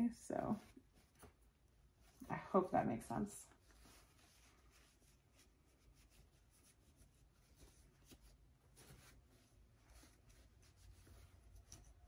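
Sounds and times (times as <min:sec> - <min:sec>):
cloth mask rustling: 0:00.0 - 0:12.0.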